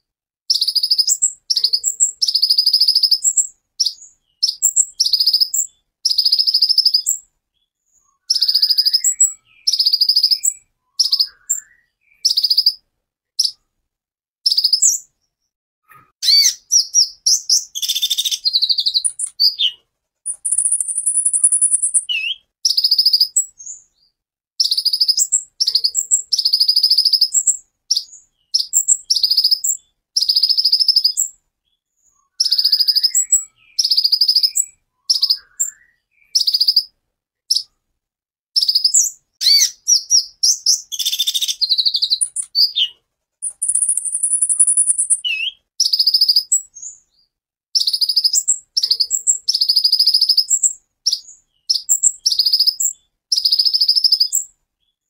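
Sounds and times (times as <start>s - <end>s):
sunbird singing high-pitched trills: 0.5s - 7.2s, 8.0s - 12.8s, 14.5s - 15.1s, 16.2s - 23.8s, 24.6s - 31.3s, 32.1s - 36.9s, 38.6s - 47.0s, 47.8s - 54.5s.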